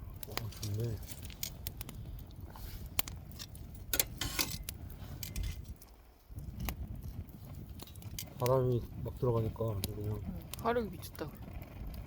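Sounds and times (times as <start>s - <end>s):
campfire crackling and popping: 0.0s - 12.0s
low rumble of fire: 0.0s - 12.0s.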